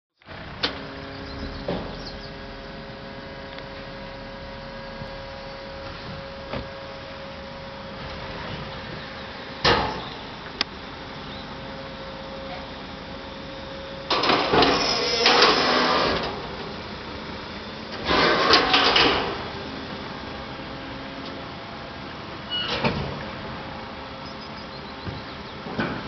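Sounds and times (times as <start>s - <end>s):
bin lift motor hum: 0.2s - 26.0s.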